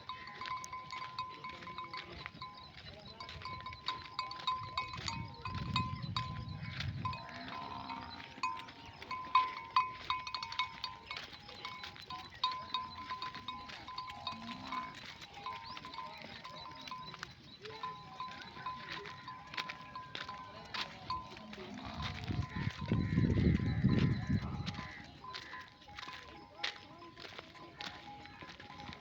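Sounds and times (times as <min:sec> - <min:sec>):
sheep bells clinking: 0:00.0 - 0:29.0.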